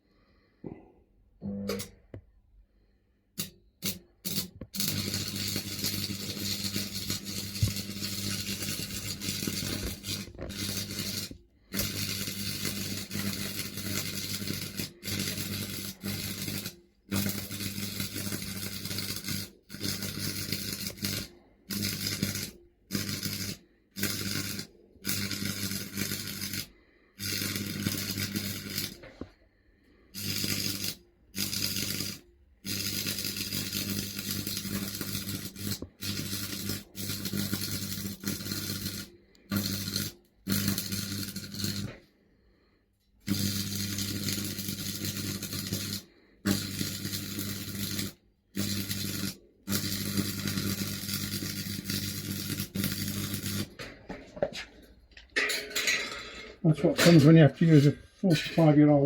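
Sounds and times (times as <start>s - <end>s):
welder transformer buzz: 1.4s - 2.1s, 3.4s - 29.3s, 30.2s - 42.0s, 43.2s - 53.9s
welding arc crackling and hissing: 3.4s - 29.3s, 30.2s - 42.0s, 43.3s - 54.9s.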